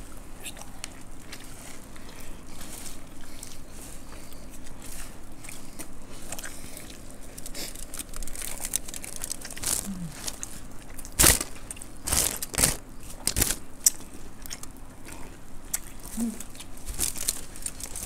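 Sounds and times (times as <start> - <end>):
puffed rice crunching: 0.5 - 18.0.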